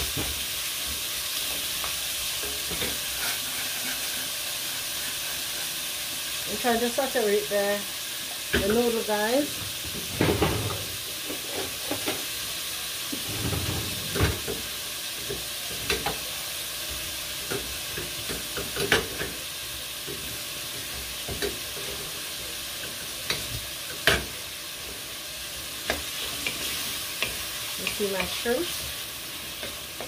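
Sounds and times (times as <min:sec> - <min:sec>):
shrimp and garlic sizzling in oil: 0:00.0 - 0:30.0.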